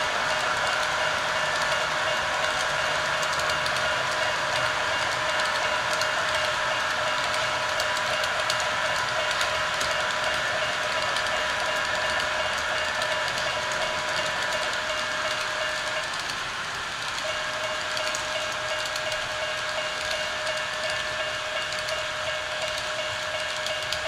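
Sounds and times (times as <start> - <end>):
model train whirring: 0.0 - 24.0.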